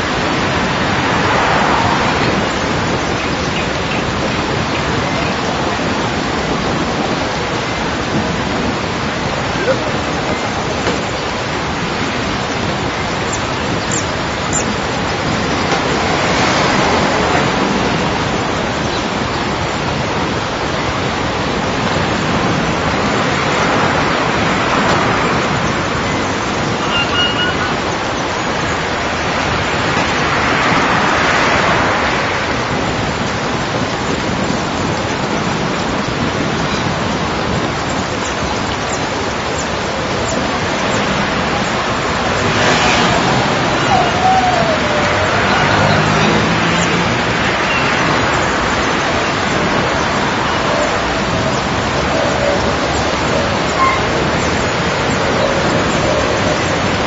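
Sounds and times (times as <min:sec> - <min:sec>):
dense rushing noise: 0:00.0 - 0:57.0.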